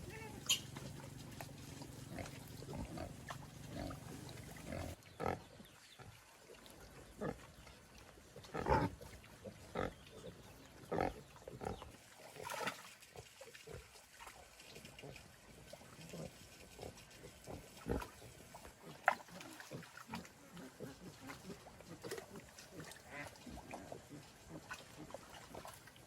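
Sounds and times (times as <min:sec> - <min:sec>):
pigs grunting: 0:00.0 - 0:06.2, 0:07.1 - 0:07.7, 0:08.4 - 0:12.6, 0:14.8 - 0:25.8.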